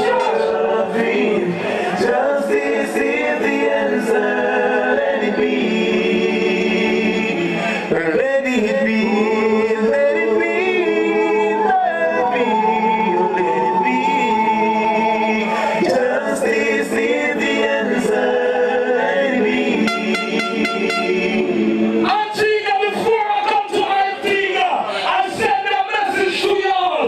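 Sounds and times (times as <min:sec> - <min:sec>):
song with sung vocals over speakers: 0:00.0 - 0:27.0.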